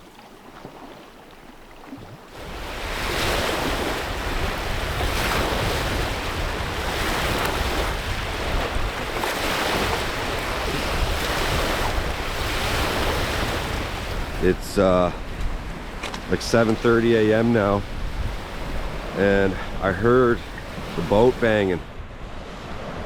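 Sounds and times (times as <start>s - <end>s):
wind buffeting microphone: 2.0s - 23.0s
waves crashing on shore: 2.3s - 23.0s.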